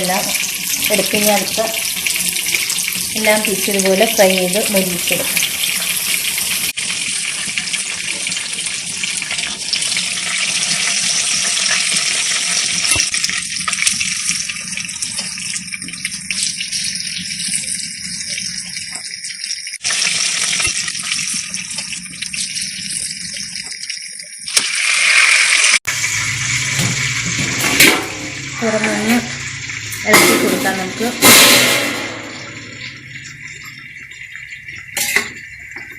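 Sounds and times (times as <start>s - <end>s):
chicken sizzling in hot oil: 0.0s - 35.9s.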